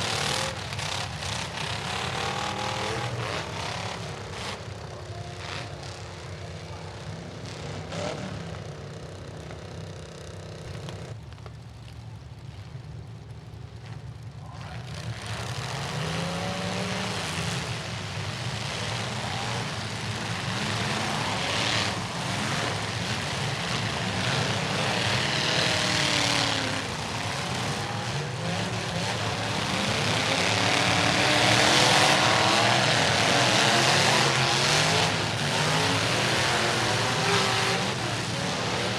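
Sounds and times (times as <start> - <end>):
truck engines running and revving: 0.0 - 38.9.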